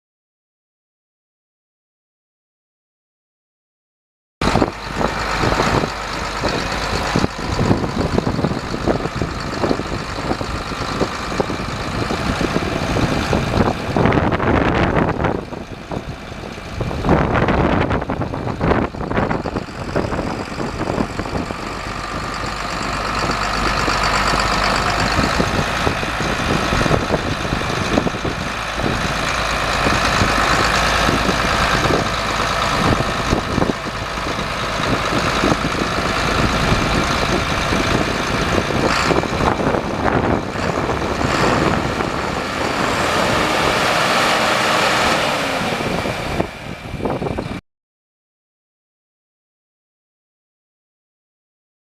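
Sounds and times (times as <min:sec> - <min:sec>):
tractor diesel engine running: 0:04.4 - 0:47.6.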